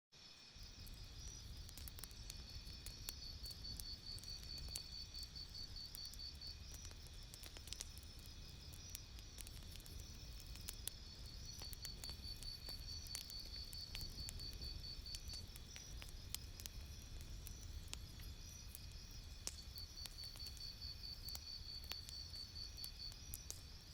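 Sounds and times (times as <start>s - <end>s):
campfire crackling and popping: 0.4s - 23.9s.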